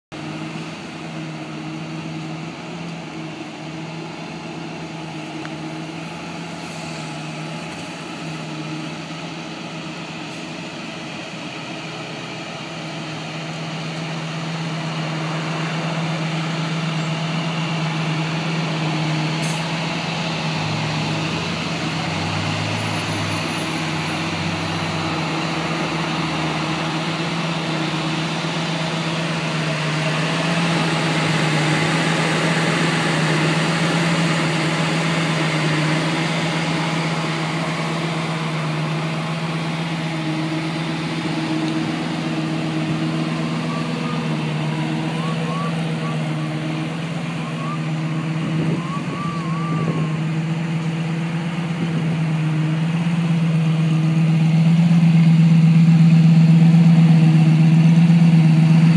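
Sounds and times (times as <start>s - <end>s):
engine idling: 0.1s - 58.9s.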